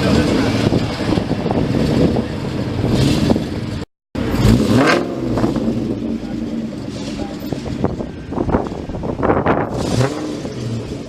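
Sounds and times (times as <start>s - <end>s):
car engines running loudly: 0.0s - 11.0s.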